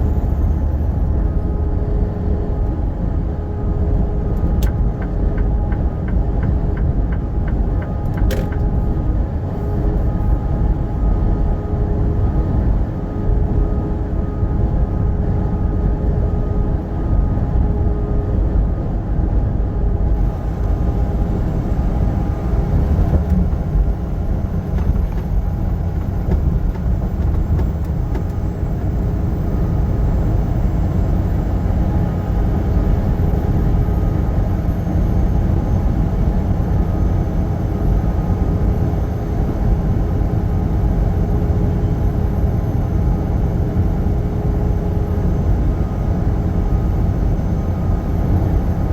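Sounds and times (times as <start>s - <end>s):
faint constant hums: 0.0s - 48.9s
truck engine and road rumble: 0.0s - 48.9s.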